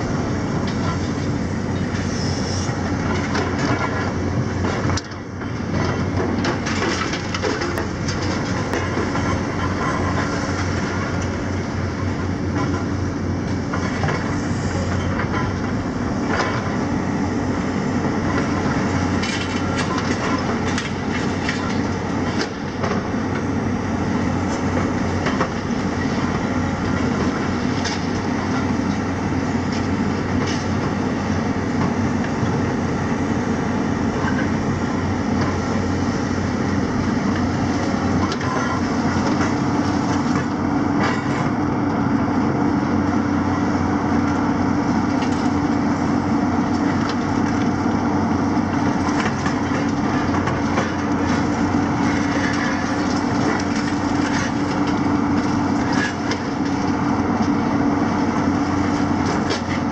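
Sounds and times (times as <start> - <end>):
excavator engines droning: 0.0 - 59.9.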